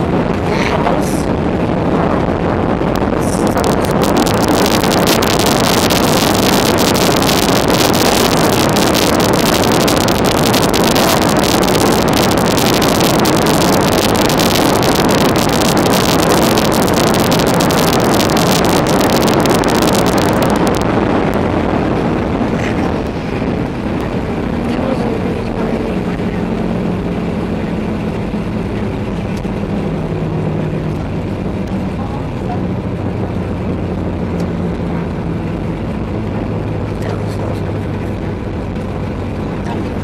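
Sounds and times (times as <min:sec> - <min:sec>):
aircraft cabin roar: 0:00.0 - 0:40.0
recording crackling: 0:00.0 - 0:40.0.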